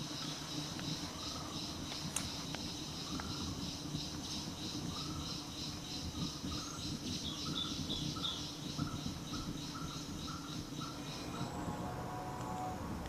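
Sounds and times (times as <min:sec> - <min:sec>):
forest birds calling: 0:00.0 - 0:12.8
pulsing insect-like buzz: 0:00.0 - 0:13.0.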